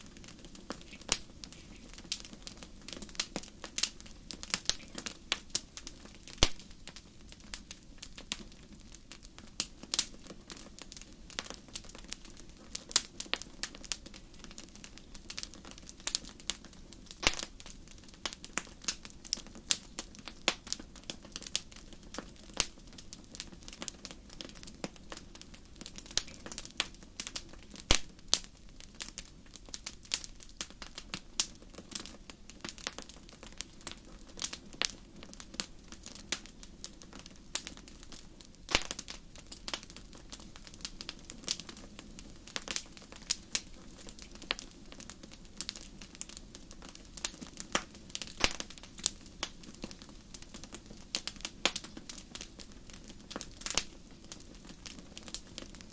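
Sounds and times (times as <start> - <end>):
fire crackling and popping: 0.0 - 55.9.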